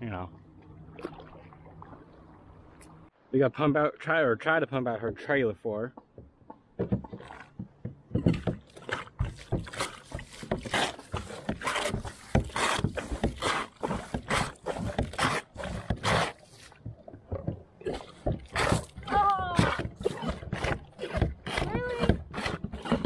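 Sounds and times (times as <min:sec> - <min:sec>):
paddle splashes and drips: 0:00.6 - 0:03.0, 0:06.1 - 0:23.0.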